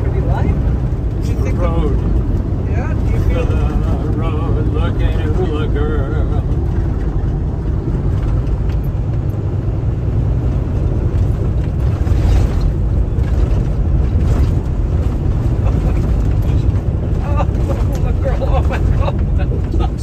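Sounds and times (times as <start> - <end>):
truck engine drone: 0.0 - 20.0
tyre and road noise: 0.0 - 20.0.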